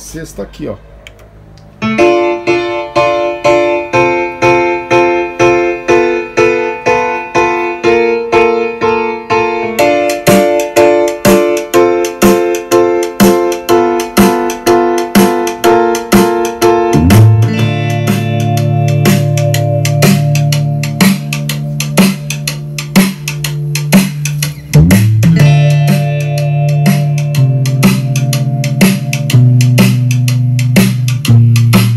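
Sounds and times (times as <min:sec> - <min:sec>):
repeated keyboard chords: 0:00.0 - 0:31.9.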